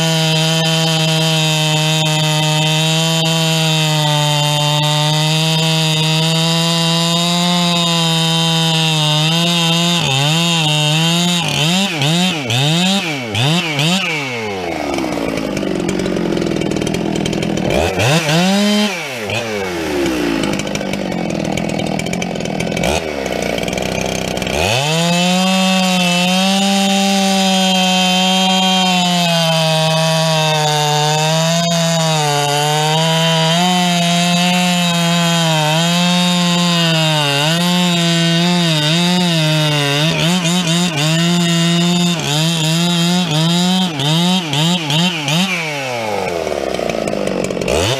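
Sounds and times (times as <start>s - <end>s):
two-stroke chainsaw engine revving: 0.0s - 47.9s.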